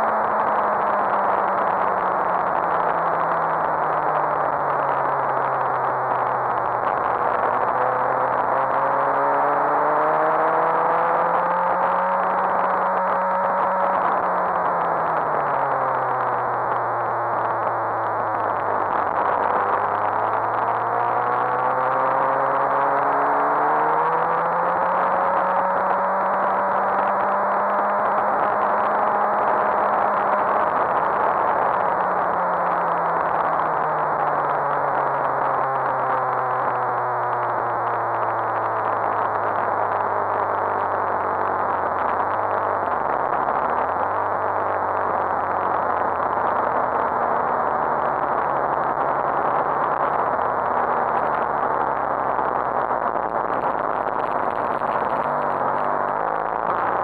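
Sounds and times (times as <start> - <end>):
motorcycle engine slowing: 0.0 - 57.0.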